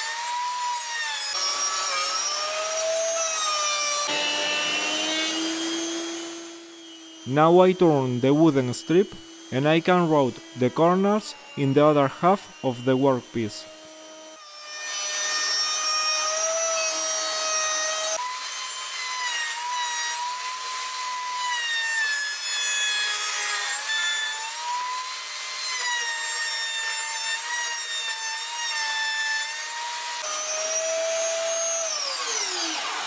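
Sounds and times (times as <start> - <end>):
router bit rasping wood: 0.0 - 33.0
router high whine: 0.0 - 33.0.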